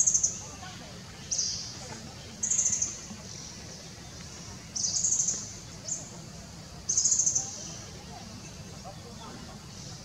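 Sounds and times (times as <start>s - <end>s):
bird chirp: 0.0s - 6.1s, 6.9s - 10.0s.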